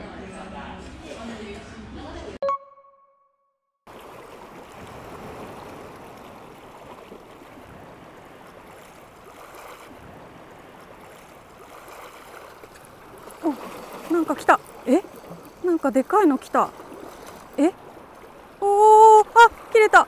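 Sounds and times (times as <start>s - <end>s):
light wind: 3.9s - 20.0s
sea water washing against rocks: 3.9s - 20.0s.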